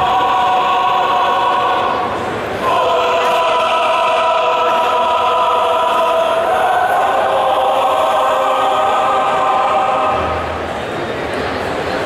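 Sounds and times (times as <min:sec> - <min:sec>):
choir singing over loudspeakers: 0:00.0 - 0:11.1.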